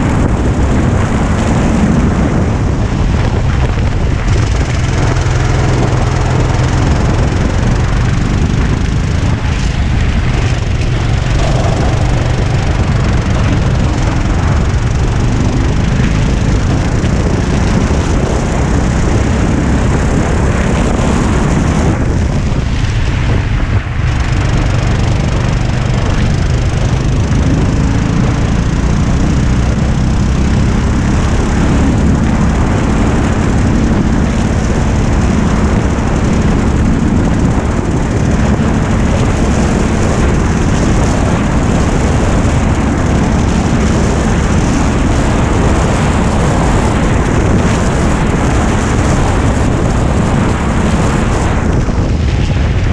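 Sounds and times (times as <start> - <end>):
go-kart engine running hard: 0.0 - 52.9
wind rush on microphone: 0.0 - 52.9.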